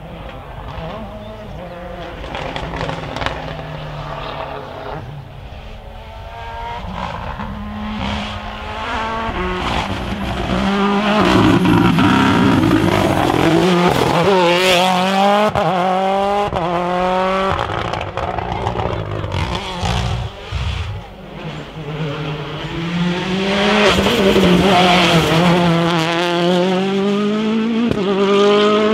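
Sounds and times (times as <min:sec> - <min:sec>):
rally car engine revving: 0:00.0 - 0:28.9.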